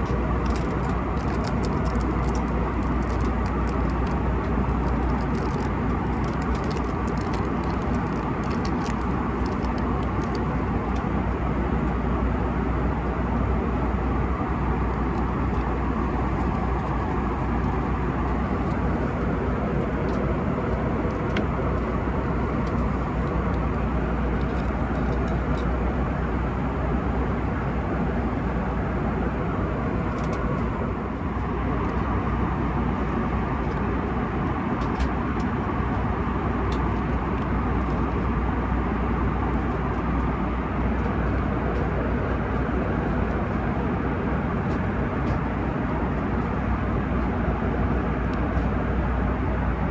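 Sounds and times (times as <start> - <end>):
airplane cabin drone: 0.0 - 49.9.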